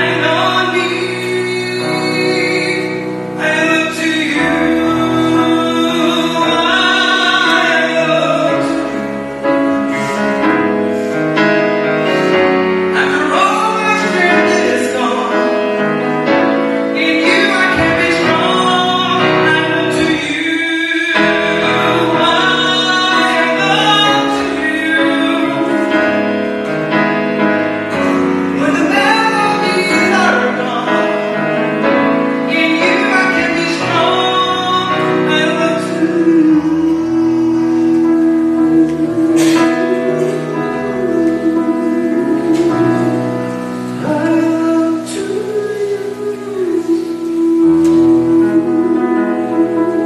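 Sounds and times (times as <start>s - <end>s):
man singing slow song: 0.0s - 9.2s, 12.9s - 26.3s, 28.1s - 50.0s
grand piano: 0.0s - 50.0s.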